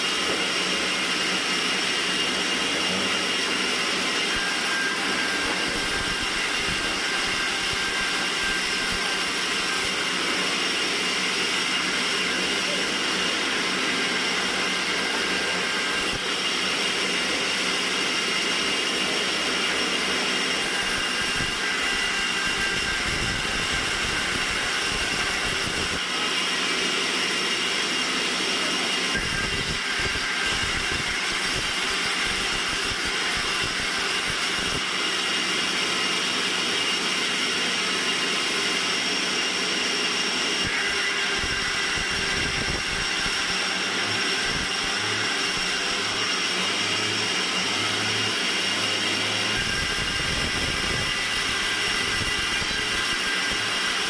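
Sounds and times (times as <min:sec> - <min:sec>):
band sawmill running: 0:00.0 - 0:54.0.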